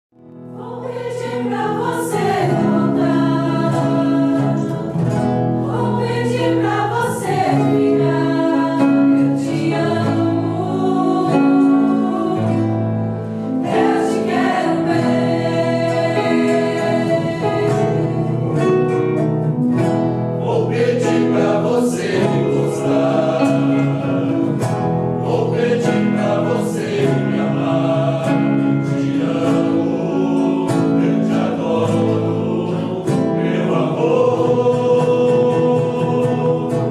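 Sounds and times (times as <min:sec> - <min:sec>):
choir singing: 0:00.4 - 0:36.9.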